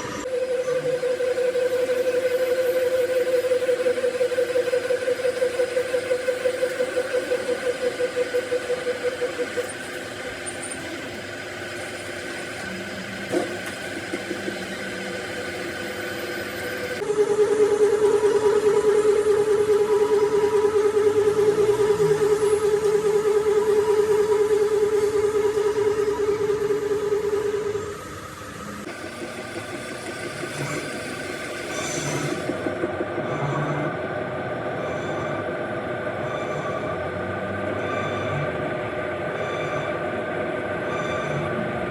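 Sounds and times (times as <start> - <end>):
metalworking machinery pulsing hum: 0.0 - 41.9.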